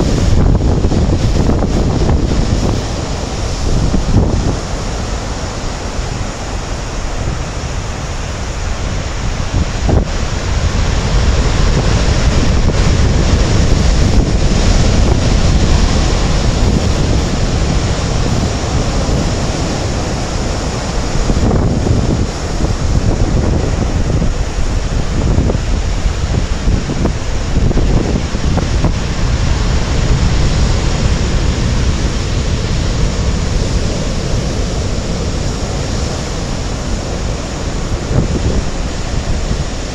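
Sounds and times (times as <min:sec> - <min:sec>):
heavy waves breaking: 0:00.0 - 0:39.9
wind buffeting microphone: 0:00.0 - 0:39.9.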